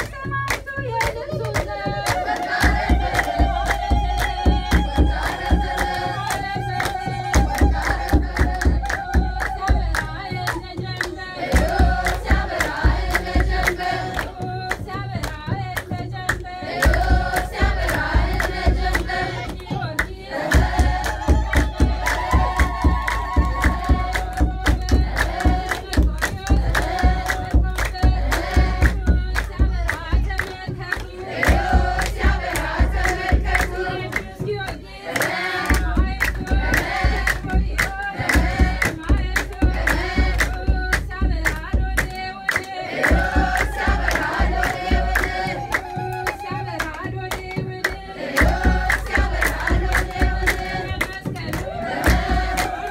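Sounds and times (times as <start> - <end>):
drum beating steady rhythm: 0.0 - 52.9
hand clapping: 0.0 - 52.9
women singing a hymn: 0.0 - 52.9.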